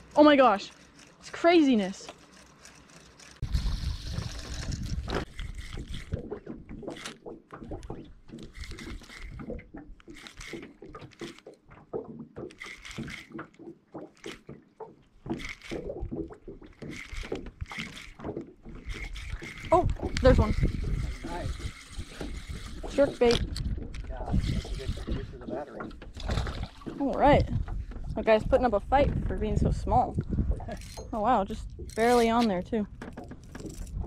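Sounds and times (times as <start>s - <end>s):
water lapping against boat hull: 0.0s - 34.0s
knocks and clicks: 2.0s - 34.0s.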